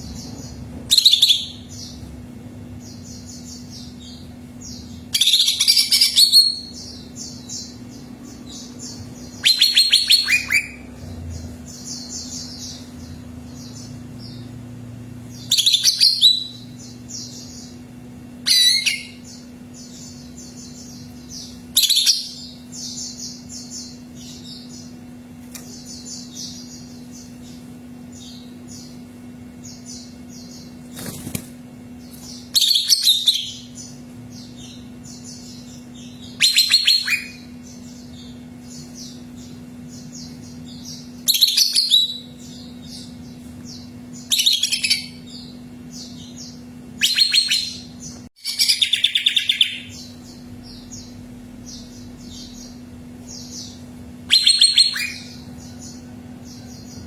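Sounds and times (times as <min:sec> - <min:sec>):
bird chirping song: 0:00.0 - 0:57.0
steady low hum: 0:00.0 - 0:57.0
faint bird twittering: 0:02.8 - 0:57.0.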